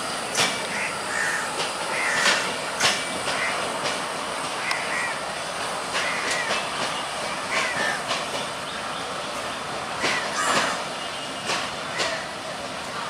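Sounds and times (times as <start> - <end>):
freight train rumbling: 0.0 - 13.0
wheels clacking over rail joints: 0.0 - 13.0.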